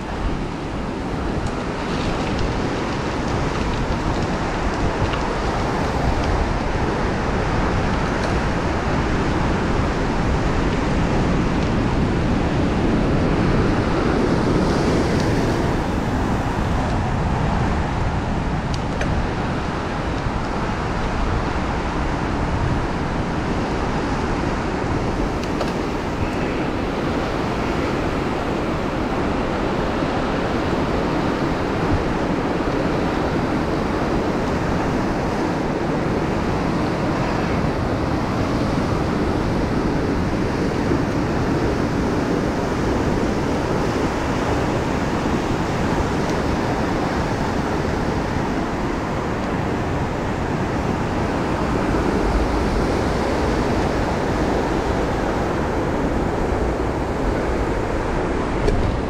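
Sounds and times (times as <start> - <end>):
wind noise on microphone: 0.0 - 59.0.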